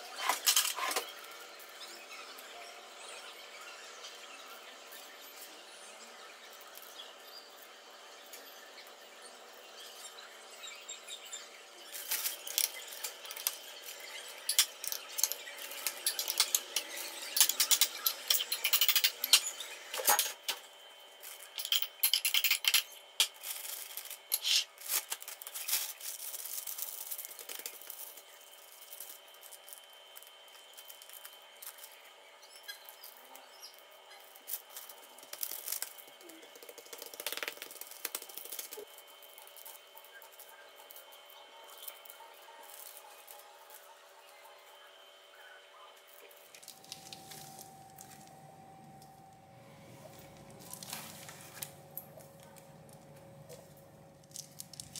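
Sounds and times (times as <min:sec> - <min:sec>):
faint steady hum: 0:00.0 - 0:54.9.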